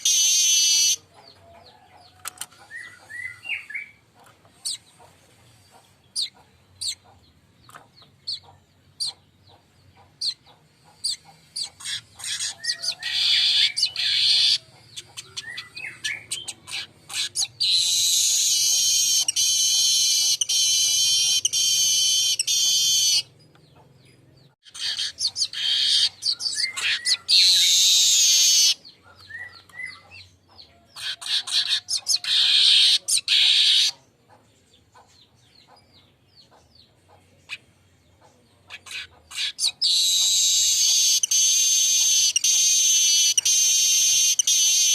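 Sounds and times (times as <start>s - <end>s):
weaver bird buzzy song: 0.0s - 1.3s, 2.2s - 34.1s, 37.4s - 44.9s.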